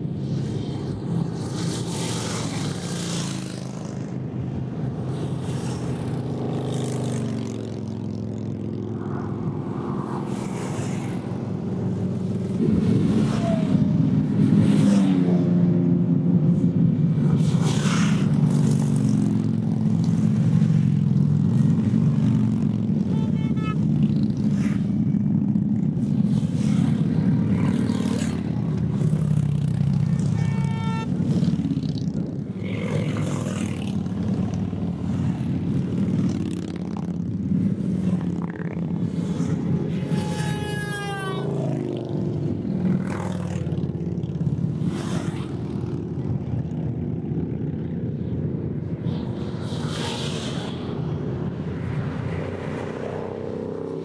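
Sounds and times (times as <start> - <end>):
motorcycles passing: 0.0 - 54.0.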